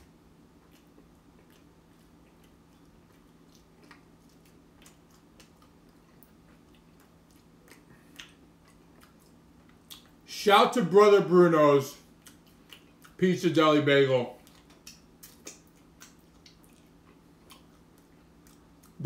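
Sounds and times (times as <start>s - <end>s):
low electrical hum: 0.0s - 19.0s
person chewing: 0.4s - 10.2s, 12.0s - 13.2s, 14.3s - 19.0s.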